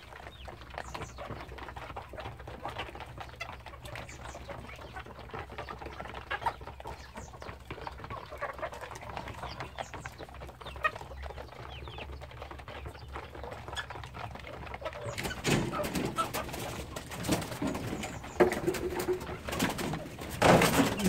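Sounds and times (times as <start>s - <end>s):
chickens clucking: 0.0s - 21.0s
chickens scuffling: 0.0s - 21.0s.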